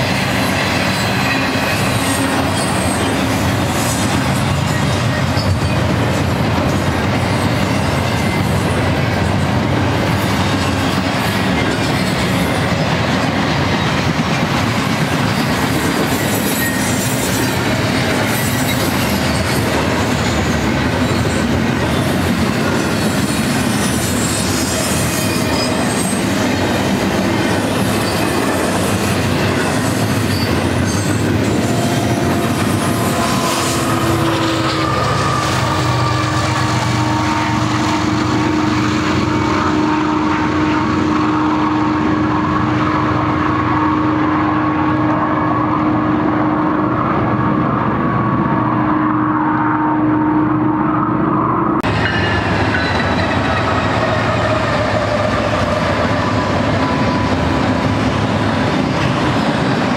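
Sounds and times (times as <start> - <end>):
locomotive hum: 0.0 - 59.9
train wheels rumbling on rail: 0.0 - 59.9.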